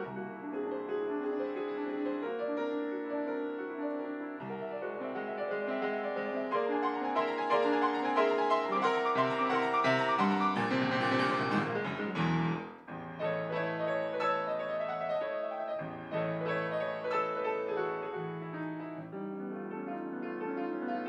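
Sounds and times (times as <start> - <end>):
solo grand piano: 0.0 - 21.0.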